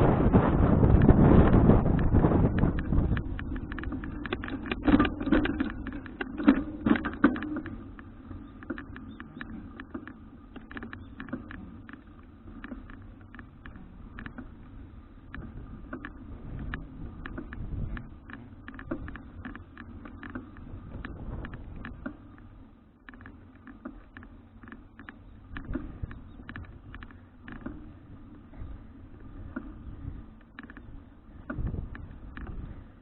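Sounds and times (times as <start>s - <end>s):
wind noise on microphone: 0.0s - 23.2s, 24.6s - 33.0s
bicycle clicks and rattles: 0.4s - 33.0s
bicycle knocks: 0.9s - 14.6s, 15.3s - 33.0s.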